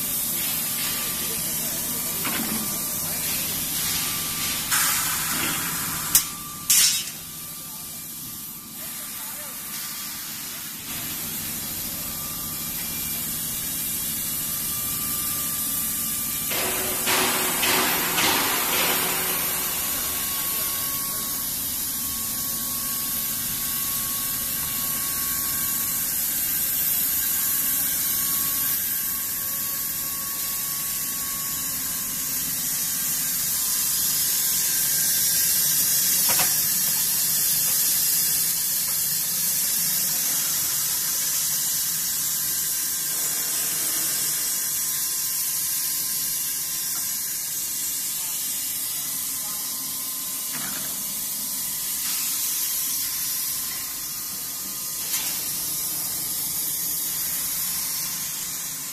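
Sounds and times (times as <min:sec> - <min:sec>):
machinery hiss: 0:00.0 - 0:58.9.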